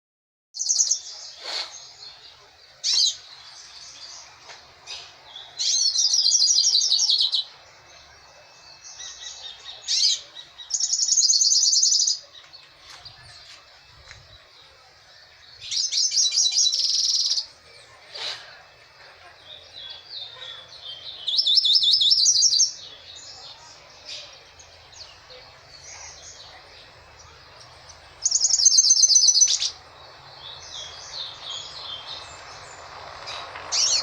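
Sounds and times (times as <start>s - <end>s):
bird warbling song: 0.6s - 34.0s.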